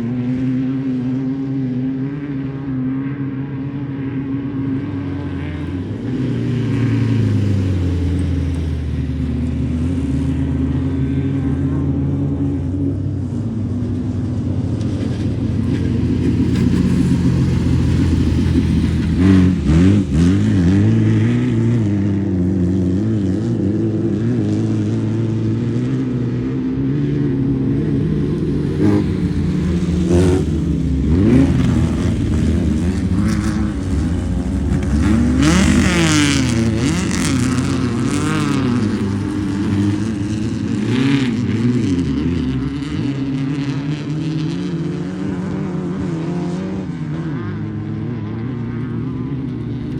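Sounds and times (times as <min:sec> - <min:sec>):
off-road vehicle engines revving: 0:00.0 - 0:49.9.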